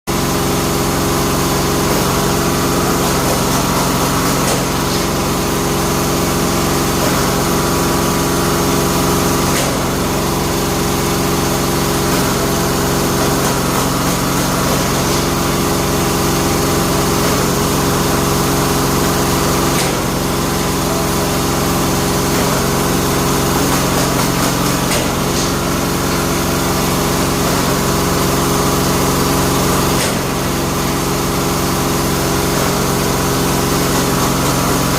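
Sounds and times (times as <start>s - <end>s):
machine motor humming: 0.1s - 34.9s.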